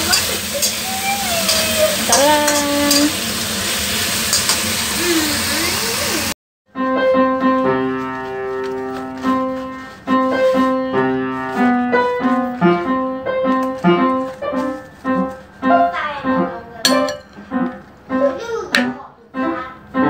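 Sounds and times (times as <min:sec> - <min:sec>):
piano music: 0:00.0 - 0:03.2, 0:06.7 - 0:20.0.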